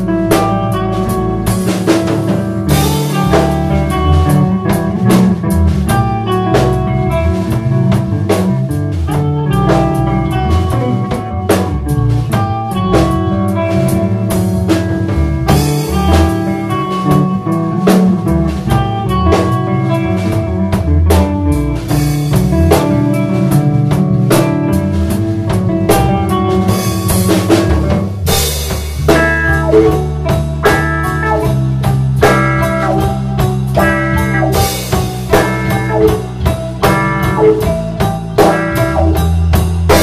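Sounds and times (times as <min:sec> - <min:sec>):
drum kit playing: 0:00.0 - 0:40.0
electric guitars playing: 0:00.0 - 0:40.0.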